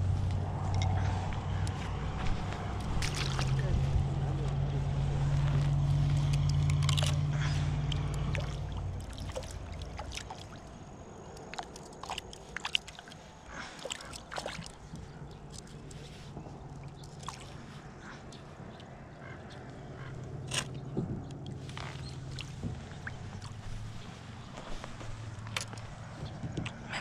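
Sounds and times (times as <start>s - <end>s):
boat motor droning: 0.0s - 27.0s
fishing line clicks and rustles: 0.1s - 27.0s.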